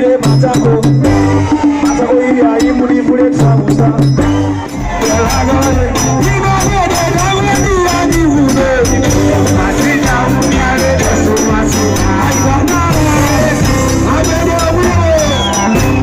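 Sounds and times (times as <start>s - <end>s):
live band music: 0.0s - 16.0s
person singing: 0.0s - 16.0s.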